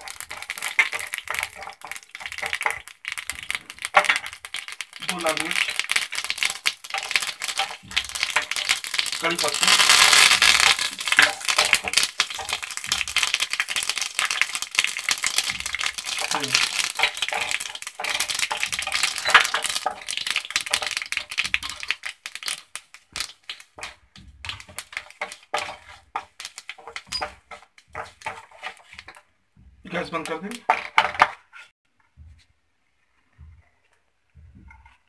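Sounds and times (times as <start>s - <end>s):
spices sizzling in hot oil: 0.0s - 30.8s.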